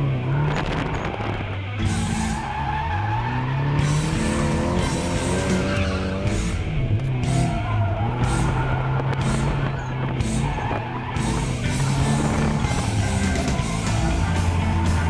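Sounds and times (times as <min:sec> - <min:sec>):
car engine revving: 0:00.0 - 0:15.0
loud music track: 0:00.0 - 0:15.0.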